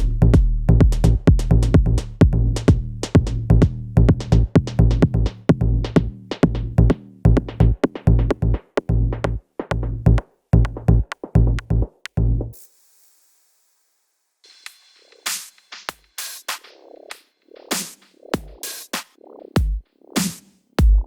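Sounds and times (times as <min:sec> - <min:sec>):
electronic music with drum-machine beat: 0:00.0 - 0:12.4, 0:14.5 - 0:21.0.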